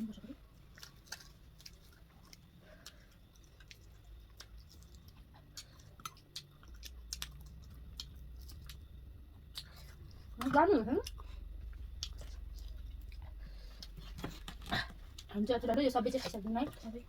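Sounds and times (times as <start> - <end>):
low steady hum: 0.0 - 17.0
chewing with wet clicks: 0.5 - 15.3.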